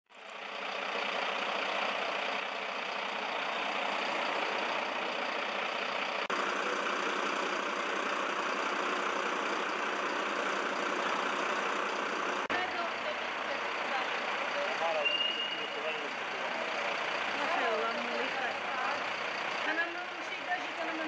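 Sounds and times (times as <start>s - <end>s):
vehicle engines idling: 0.1s - 21.0s.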